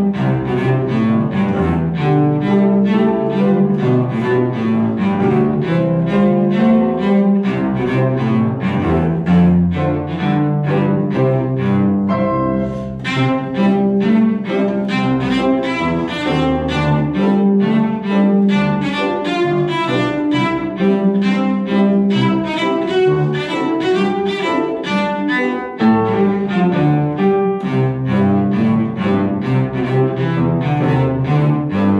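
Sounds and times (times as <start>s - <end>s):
cello bowing a melody: 0.0s - 31.9s
piano playing: 0.0s - 31.9s.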